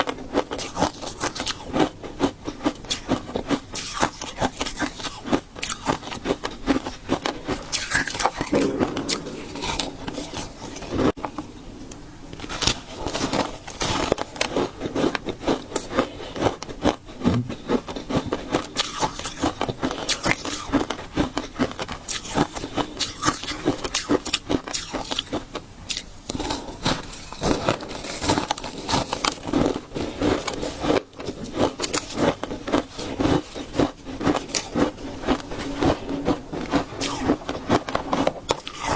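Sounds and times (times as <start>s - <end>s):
ice crunching between teeth: 0.0s - 11.2s, 12.4s - 38.9s.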